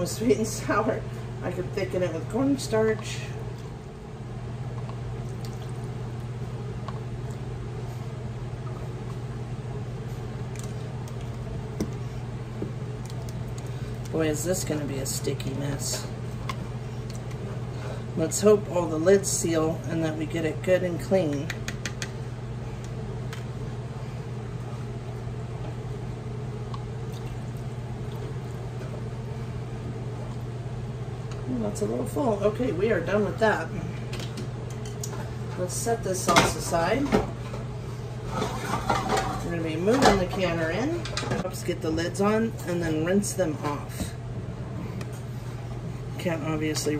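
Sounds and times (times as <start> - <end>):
low mechanical hum: 0.0 - 46.9.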